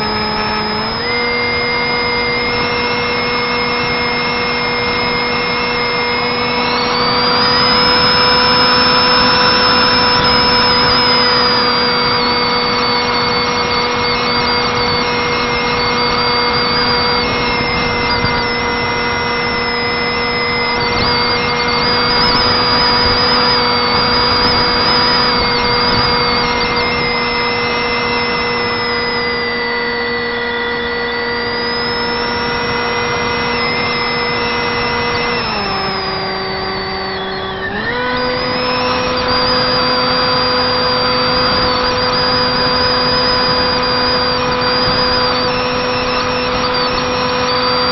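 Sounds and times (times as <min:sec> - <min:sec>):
electric motor high whine: 0:00.0 - 0:47.9.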